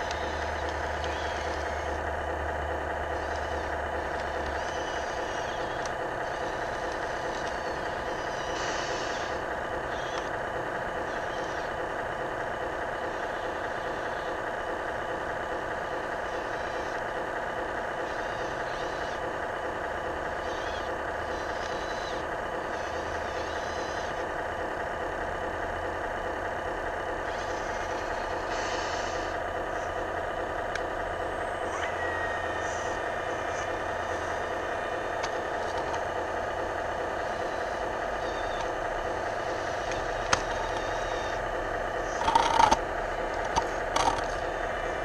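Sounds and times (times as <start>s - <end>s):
toy excavator running: 0.0s - 45.0s.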